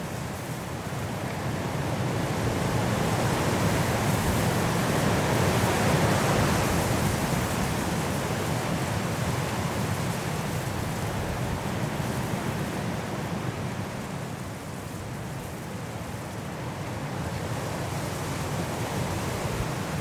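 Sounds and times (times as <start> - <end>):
strong wind through trees: 0.0 - 20.0.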